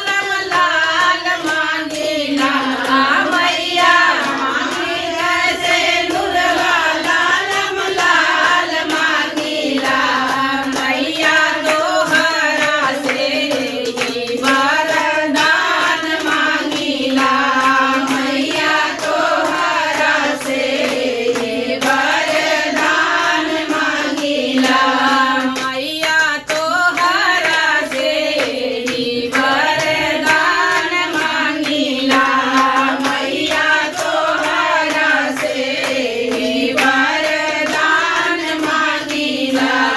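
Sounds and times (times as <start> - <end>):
hand claps: 0.0 - 39.9
women singing folk song: 0.0 - 39.9.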